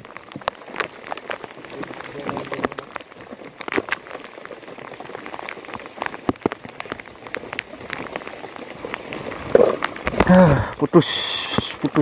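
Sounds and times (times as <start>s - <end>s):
heavy rain hiss: 0.0s - 12.0s
raindrops ticking: 0.0s - 12.0s.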